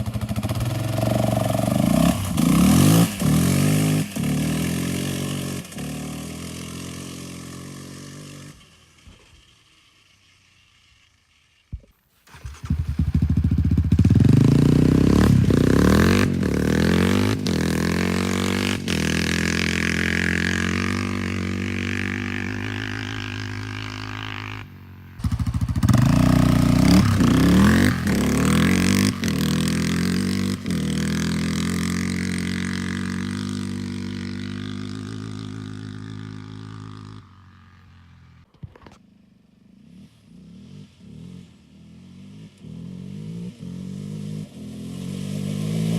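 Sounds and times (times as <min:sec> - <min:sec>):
quad bike engine revving: 0:00.0 - 0:11.6, 0:12.2 - 0:45.9.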